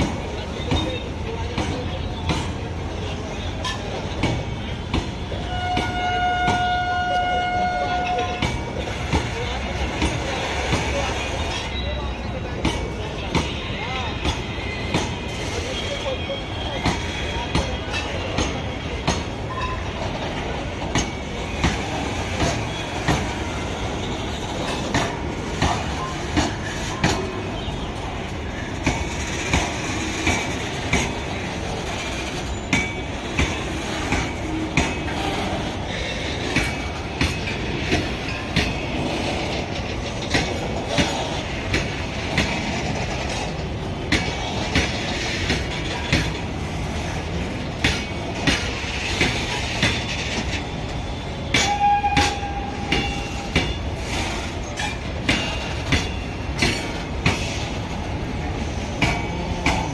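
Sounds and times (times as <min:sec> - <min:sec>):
clickety-clack of wheels on rails: 0:00.0 - 0:59.9
freight train rumble: 0:00.0 - 0:59.9.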